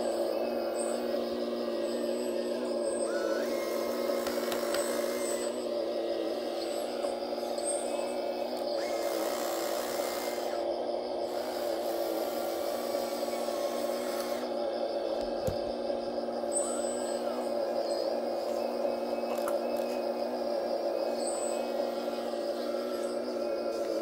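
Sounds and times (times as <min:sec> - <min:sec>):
higher electric whine: 0:00.0 - 0:24.0
model excavator electric whine: 0:00.0 - 0:24.0.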